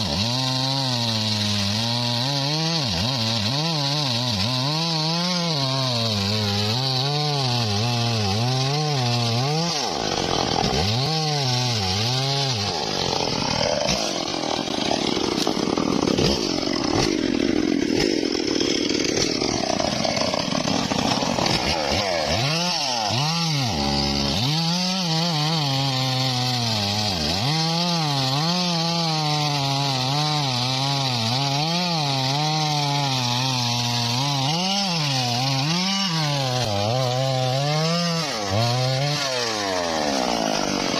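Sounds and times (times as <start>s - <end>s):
bandsaw cutting log: 0.0s - 40.9s.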